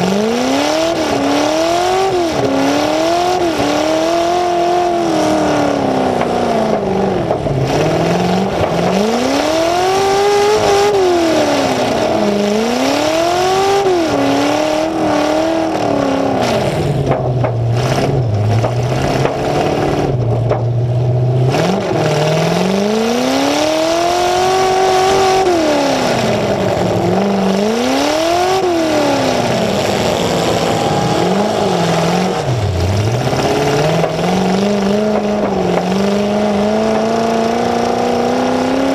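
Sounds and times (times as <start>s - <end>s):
car engine revving through open exhaust: 0.0s - 38.9s.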